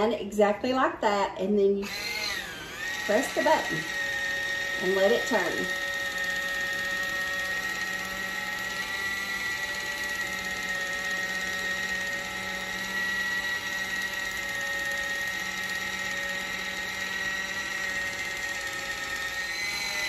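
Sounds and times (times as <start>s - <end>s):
electric can opener whining: 1.7s - 20.0s.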